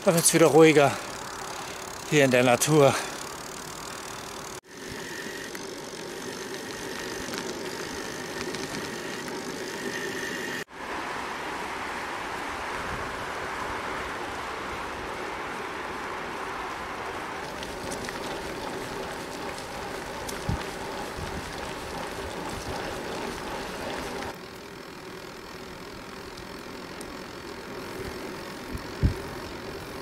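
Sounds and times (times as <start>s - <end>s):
bicycle tyres rolling on asphalt: 0.0s - 30.0s.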